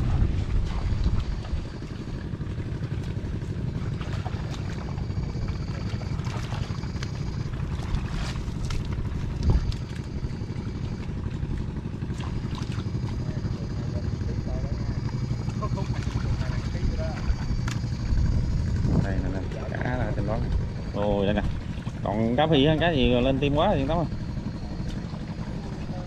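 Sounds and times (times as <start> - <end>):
small boat engine running: 0.0 - 26.0
faint high whine: 0.1 - 26.0.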